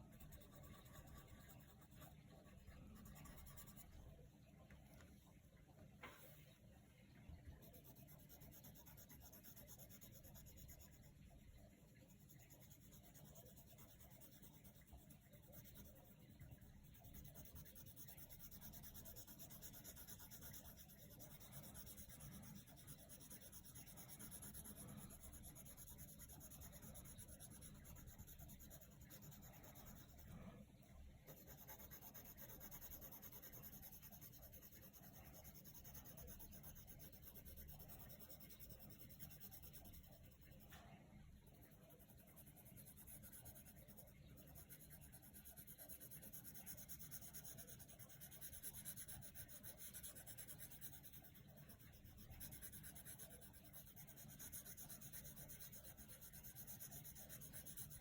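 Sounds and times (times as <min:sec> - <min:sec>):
pencil scratching on paper: 0:00.0 - 0:04.0, 0:07.5 - 0:30.6, 0:31.2 - 0:40.8, 0:41.4 - 0:58.0.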